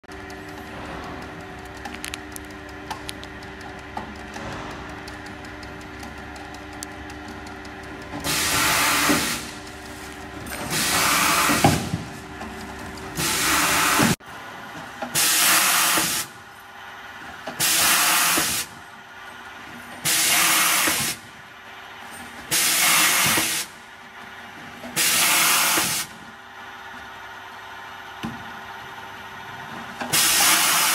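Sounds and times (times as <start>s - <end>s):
steady machine hum: 0.1s - 30.9s.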